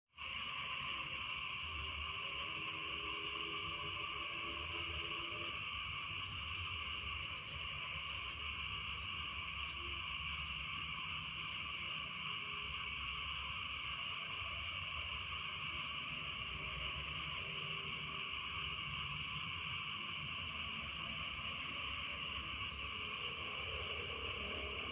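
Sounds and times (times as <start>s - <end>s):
chorus of frogs trilling: 0.2s - 24.9s.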